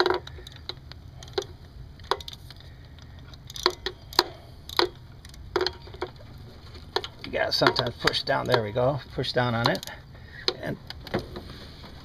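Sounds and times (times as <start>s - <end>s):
low steady hum: 0.0s - 12.0s
metallic clicks and knocks: 0.0s - 12.0s.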